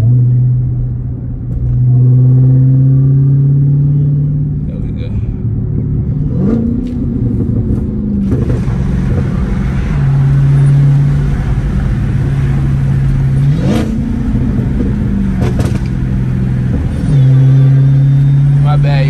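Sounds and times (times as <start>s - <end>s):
car engine droning while driving: 0.0s - 19.0s.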